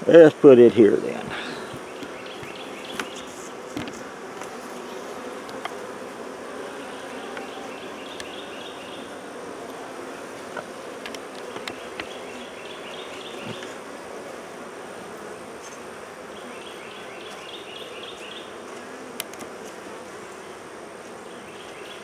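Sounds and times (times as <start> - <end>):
honey bees buzzing: 0.0 - 22.0.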